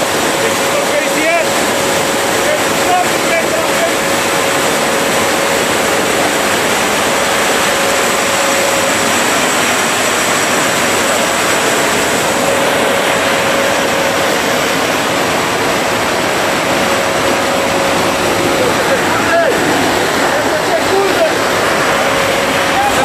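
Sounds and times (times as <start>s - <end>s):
aircraft engine roar: 0.0s - 23.0s
rushing air: 1.6s - 23.0s.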